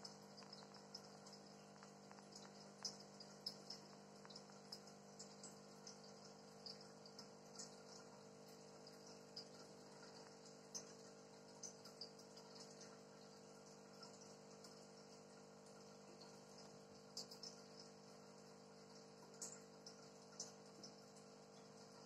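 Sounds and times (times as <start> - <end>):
aquarium bubbles popping: 0.0 - 22.0
aquarium pump humming: 0.0 - 22.0.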